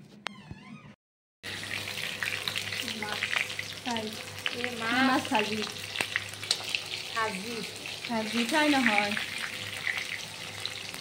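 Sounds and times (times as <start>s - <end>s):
fish sizzling in hot oil: 1.4s - 11.0s.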